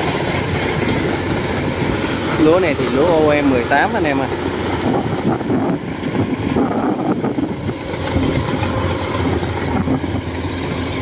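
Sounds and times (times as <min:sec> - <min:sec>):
combine harvester diesel engine hum: 0:00.0 - 0:11.0.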